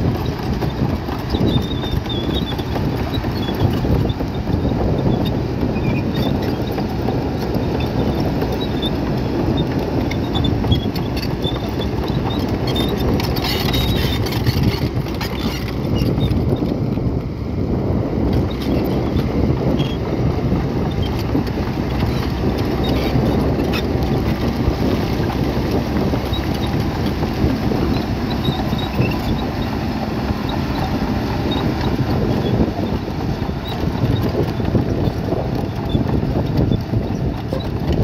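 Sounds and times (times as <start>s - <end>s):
heavy diesel machinery rumbling: 0.0s - 38.0s.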